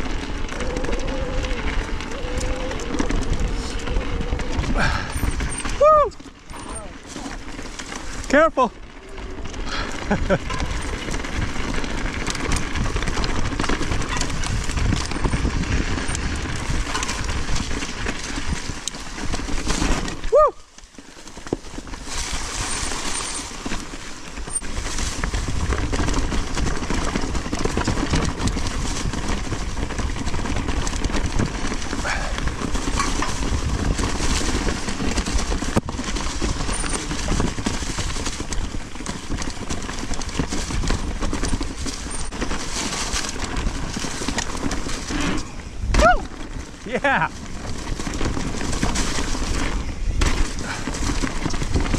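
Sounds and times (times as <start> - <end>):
wind rush on microphone: 0.0 - 6.9, 9.6 - 20.6, 24.5 - 51.9
bike rattling: 0.0 - 51.9
tyres on dirt: 0.0 - 51.9.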